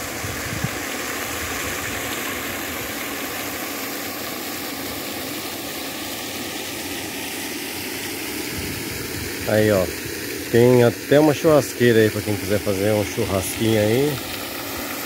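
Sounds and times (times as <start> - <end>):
pond aerator churning water: 0.0 - 15.0.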